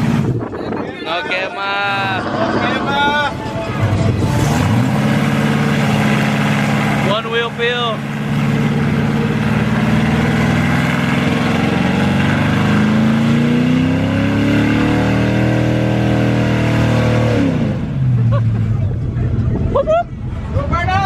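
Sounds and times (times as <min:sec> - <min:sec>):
vehicle engine revving: 0:00.0 - 0:00.6, 0:01.8 - 0:20.6.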